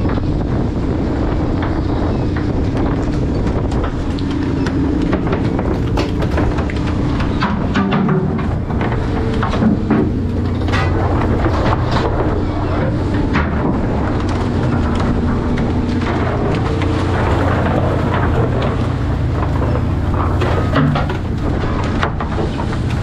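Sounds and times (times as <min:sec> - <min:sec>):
boat engine drone: 0:00.0 - 0:23.0
wind and sea noise: 0:00.0 - 0:23.0.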